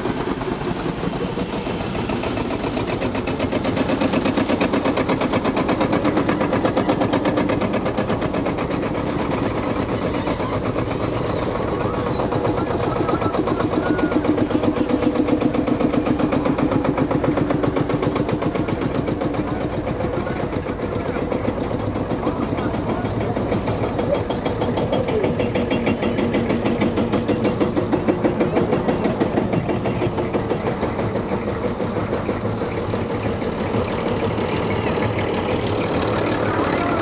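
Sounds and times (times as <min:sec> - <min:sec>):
tractor engines running: 0:00.0 - 0:37.0.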